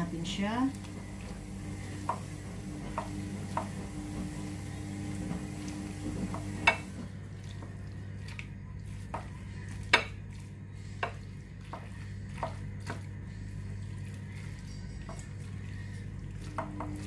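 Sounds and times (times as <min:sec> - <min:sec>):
low steady hum: 0:00.0 - 0:17.0
spatula stirring thick mixture: 0:00.0 - 0:17.0.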